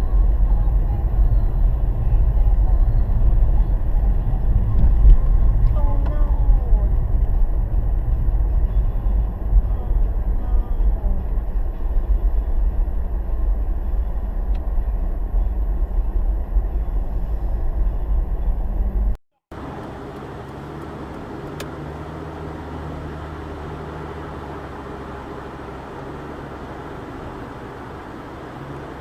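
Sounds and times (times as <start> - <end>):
car road noise and engine hum: 0.0 - 29.0.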